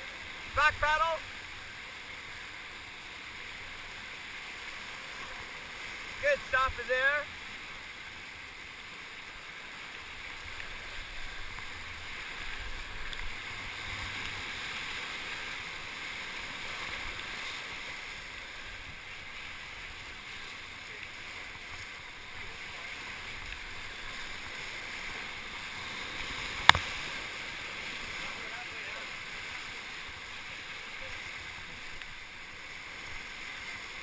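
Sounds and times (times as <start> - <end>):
river whitewater rushing: 0.0 - 34.0.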